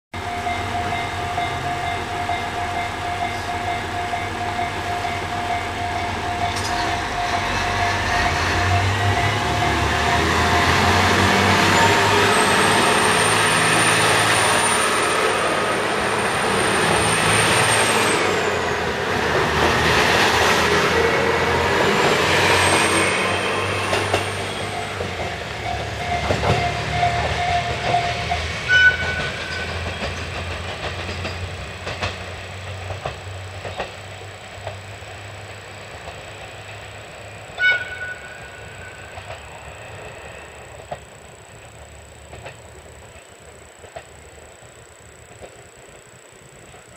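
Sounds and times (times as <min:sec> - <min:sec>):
diesel train engine: 0:00.1 - 0:46.9
steady high ringing tone: 0:00.2 - 0:30.4, 0:34.4 - 0:46.9
train wheel noise: 0:00.2 - 0:46.9.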